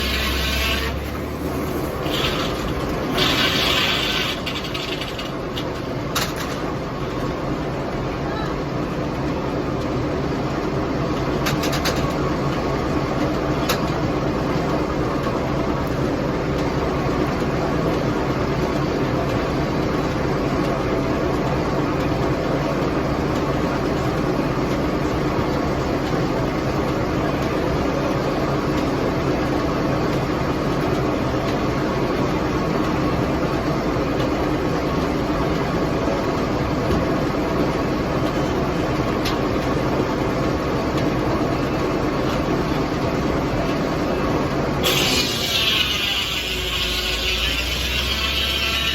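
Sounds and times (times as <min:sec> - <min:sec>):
tractor engine running: 0:00.0 - 0:08.1, 0:09.2 - 0:48.9.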